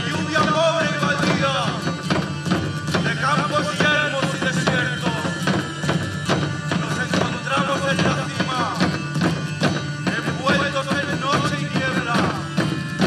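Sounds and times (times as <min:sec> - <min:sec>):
folk band playing: 0:00.0 - 0:13.0.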